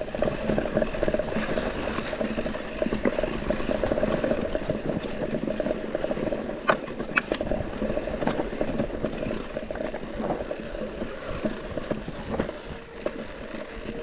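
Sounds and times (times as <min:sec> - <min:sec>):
bike rattling: 0:00.0 - 0:14.0
bike tyre noise on trail: 0:00.0 - 0:14.0.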